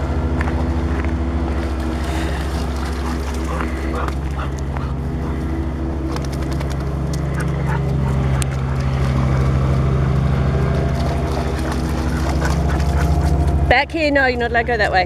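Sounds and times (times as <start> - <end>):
low motor-like hum: 0.0 - 15.0
dog splashing through water: 0.4 - 9.6, 10.6 - 13.6.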